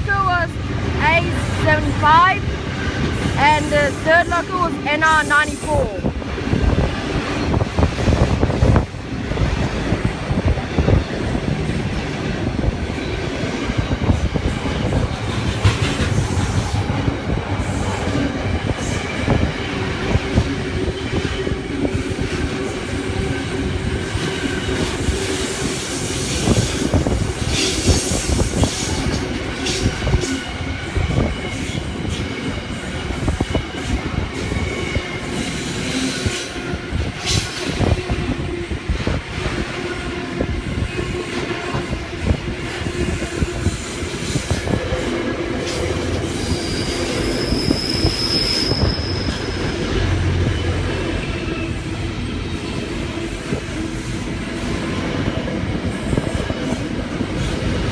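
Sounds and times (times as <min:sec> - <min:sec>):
freight train rail rumble: 0:00.0 - 0:57.9.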